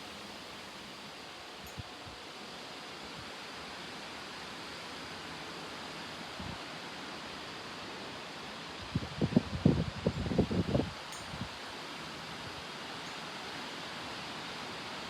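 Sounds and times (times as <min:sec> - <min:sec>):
wind rushing through trees: 0:00.0 - 0:15.0.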